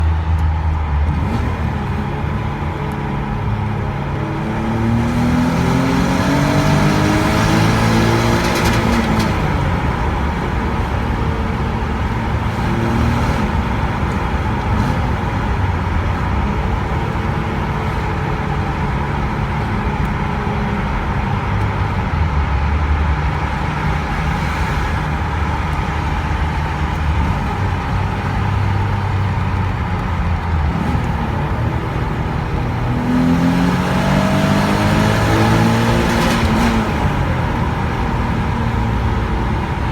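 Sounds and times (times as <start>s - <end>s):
car engine running and revving: 0.0s - 39.9s.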